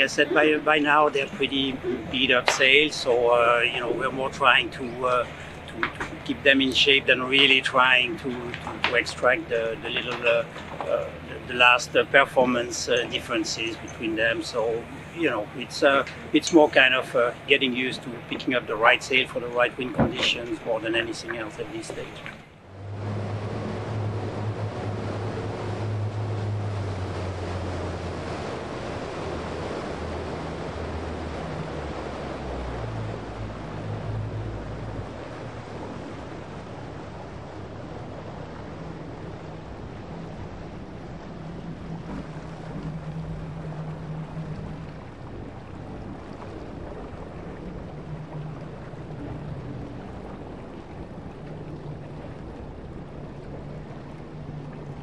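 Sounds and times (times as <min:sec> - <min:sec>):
boat motor drone: 0:00.0 - 0:55.0
rushing wind and water: 0:00.0 - 0:55.0.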